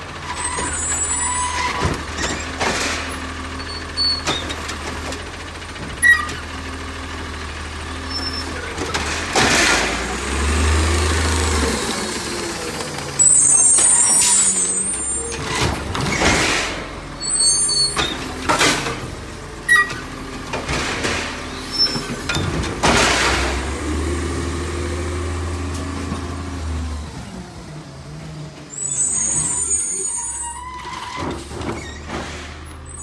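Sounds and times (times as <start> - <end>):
garbage truck engine running: 0.0 - 33.0.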